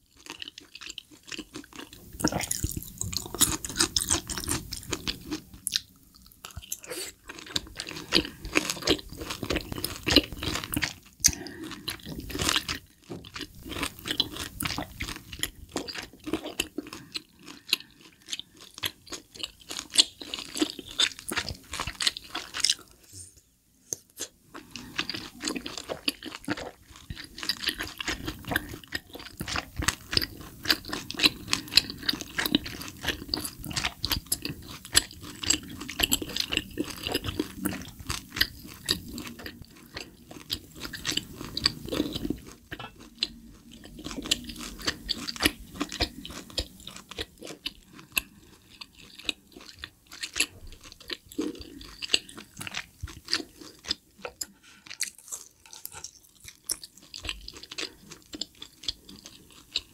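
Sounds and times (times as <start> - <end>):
close chewing of steak: 0.0 - 22.9, 24.2 - 59.9.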